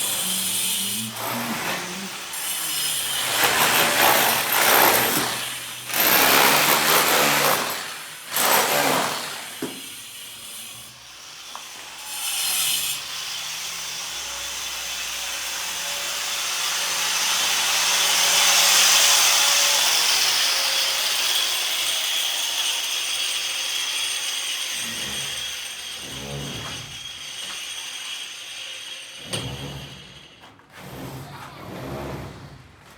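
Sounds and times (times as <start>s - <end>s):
tool rasping building material: 0.0s - 32.9s.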